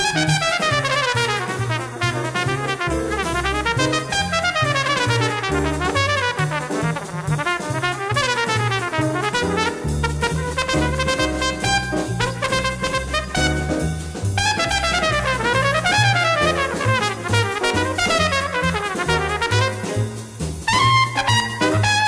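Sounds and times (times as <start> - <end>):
jazz drums: 0.0 - 22.0
trumpet solo: 0.0 - 22.0
walking bass line: 0.0 - 22.0.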